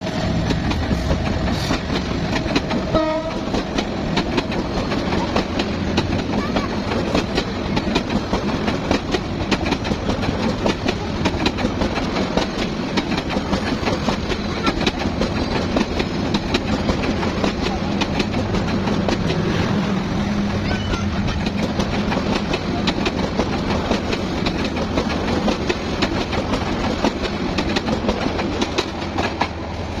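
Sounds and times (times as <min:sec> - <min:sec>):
train rumbling along track: 0:00.0 - 0:30.0
wheels clattering over rails: 0:00.0 - 0:30.0.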